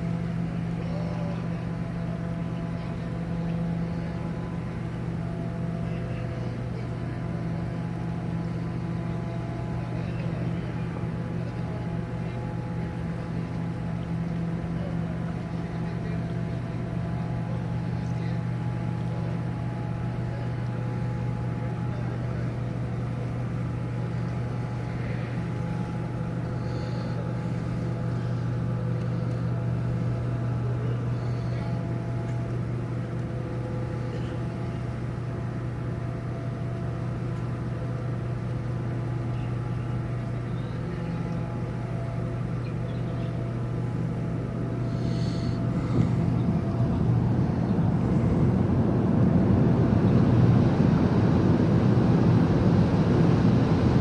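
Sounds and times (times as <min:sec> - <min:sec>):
ship machinery hum: 0:00.0 - 0:54.0.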